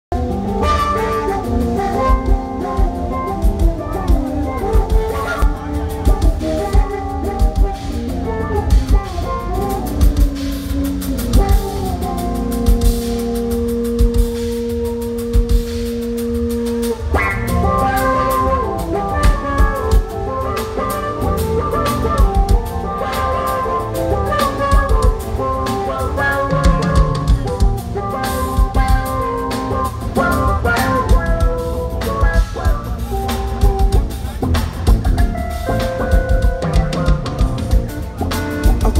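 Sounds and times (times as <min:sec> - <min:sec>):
live band playing: 0:00.0 - 0:38.9
drum kit beating: 0:00.1 - 0:38.9
electric bass: 0:00.1 - 0:38.9
keyboard: 0:00.1 - 0:38.9.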